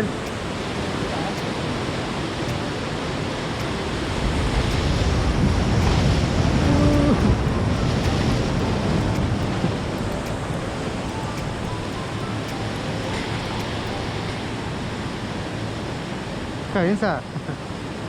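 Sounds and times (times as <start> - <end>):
wind buffeting microphone: 0.0 - 16.7
ocean surf rushing: 0.0 - 18.0.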